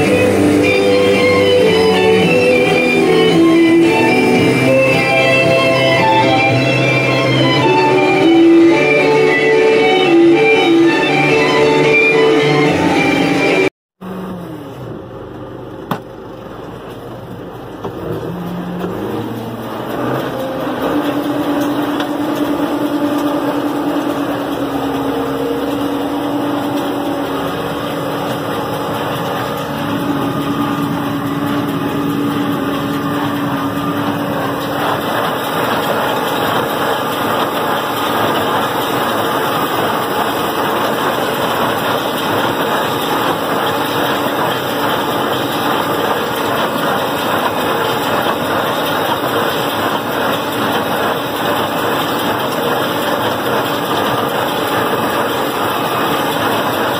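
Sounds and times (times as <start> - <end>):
hay baler machinery: 0.0 - 56.9
tractor engine running: 0.0 - 56.9.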